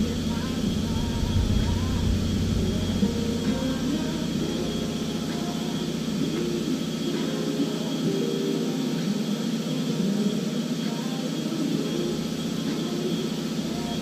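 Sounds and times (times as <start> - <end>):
heavy machine engine running: 0.0 - 14.0.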